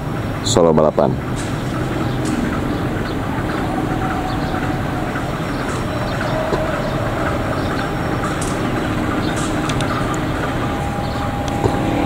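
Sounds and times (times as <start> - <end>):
locomotive engine running: 0.0 - 12.0.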